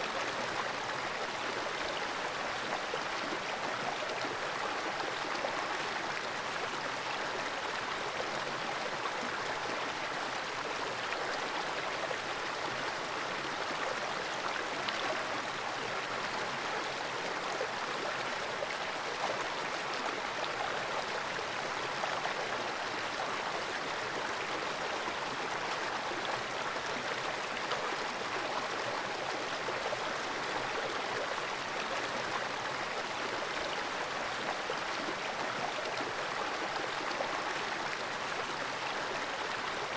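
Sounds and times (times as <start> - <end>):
underwater rushing creek water: 0.0 - 39.9.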